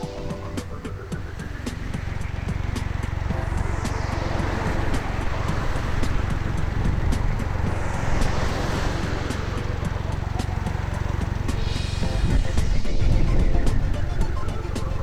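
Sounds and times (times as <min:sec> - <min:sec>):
low engine rumble: 0:00.0 - 0:15.0
road noise: 0:00.0 - 0:15.0.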